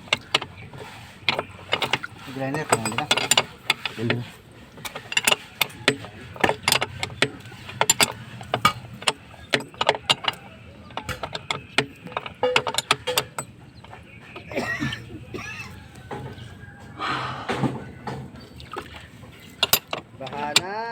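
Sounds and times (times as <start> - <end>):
hand tools clicking and tapping: 0.0 - 16.5, 17.6 - 20.9.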